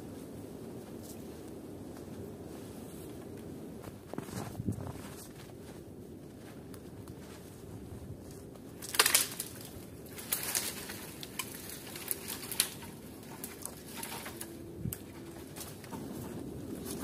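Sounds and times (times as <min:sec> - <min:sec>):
footsteps crunching in snow: 0:00.1 - 0:17.0
twigs cracking underfoot: 0:03.2 - 0:17.0.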